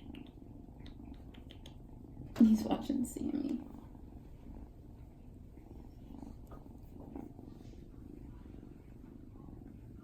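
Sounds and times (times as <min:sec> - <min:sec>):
kitten purring: 0:00.0 - 0:10.0.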